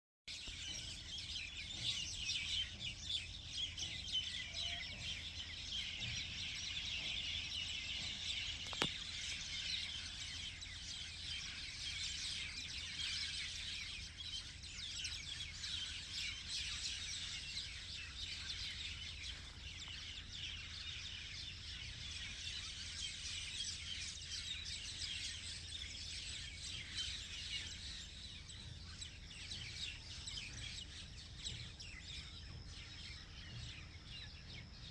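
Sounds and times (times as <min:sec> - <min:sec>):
small birds chirping: 0:00.3 - 0:34.9.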